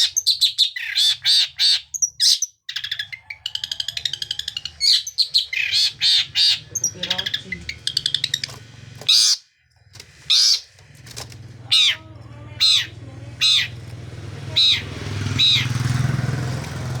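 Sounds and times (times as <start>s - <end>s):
bird harsh downward calls: 0.0s - 9.6s, 10.2s - 17.0s.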